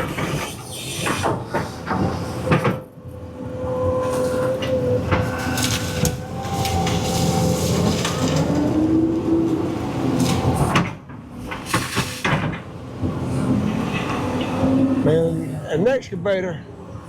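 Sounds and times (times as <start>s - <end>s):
excavator engine and hydraulic hum: 0.0s - 17.0s.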